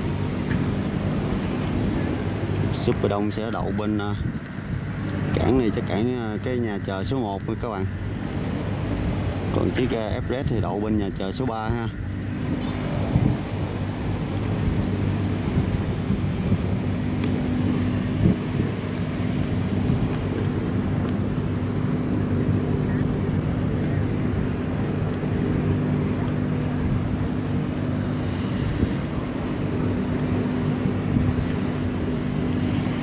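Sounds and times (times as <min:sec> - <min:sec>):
constant rushing noise: 0:00.0 - 0:33.0
ferry diesel engines droning: 0:00.0 - 0:33.0.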